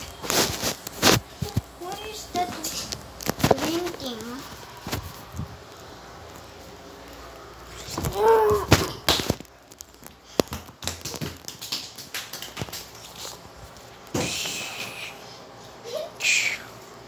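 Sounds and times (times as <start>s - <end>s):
bare feet on tiled floor: 0.0s - 16.1s.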